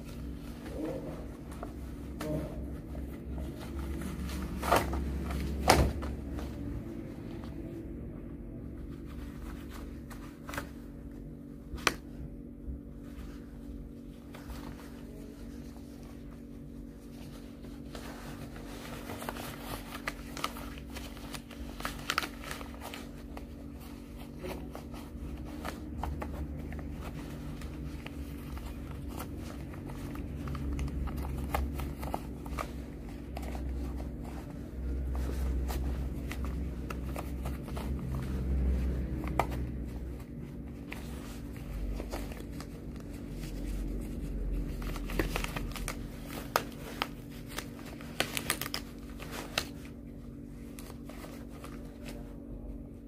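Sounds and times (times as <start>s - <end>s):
plastic and rubber gloves crinkling: 0.0s - 53.0s
steady low hum: 0.0s - 53.0s.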